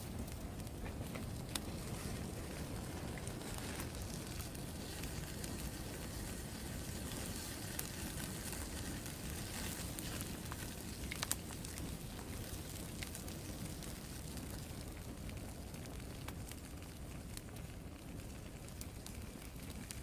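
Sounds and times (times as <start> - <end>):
fire popping: 0.0 - 20.0
wood fire burning: 0.0 - 20.0.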